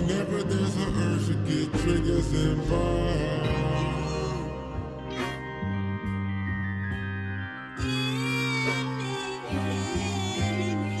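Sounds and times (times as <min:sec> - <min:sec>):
held bass notes: 0:00.0 - 0:11.0
instrumental hip-hop beat: 0:00.0 - 0:11.0.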